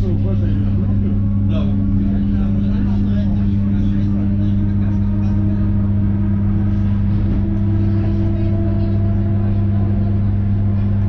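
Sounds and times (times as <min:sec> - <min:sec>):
electric train hum: 0:00.0 - 0:11.0
train running gear rumble: 0:00.0 - 0:11.0.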